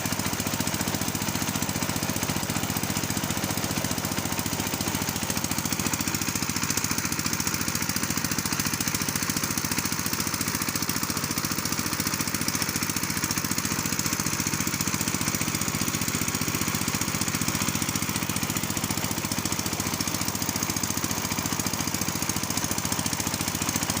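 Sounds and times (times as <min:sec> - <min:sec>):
small engine knocking: 0:00.0 - 0:24.0.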